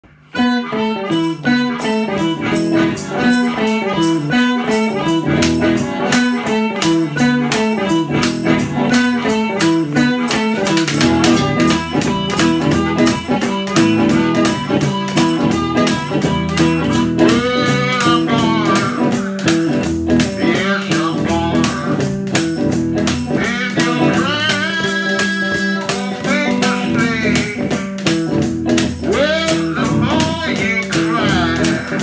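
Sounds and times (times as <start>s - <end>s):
electric guitar blues riff: 0.0s - 32.0s
washboard beat: 0.4s - 32.0s.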